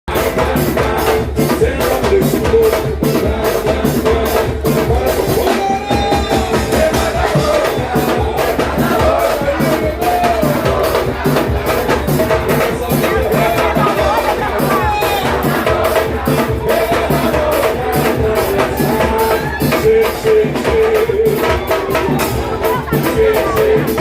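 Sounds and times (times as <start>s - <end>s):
samba percussion band playing: 0.1s - 24.0s.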